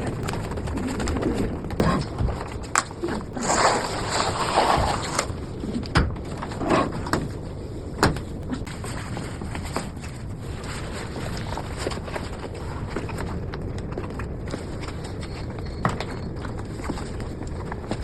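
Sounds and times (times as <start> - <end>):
handling rustle: 0.0 - 18.0.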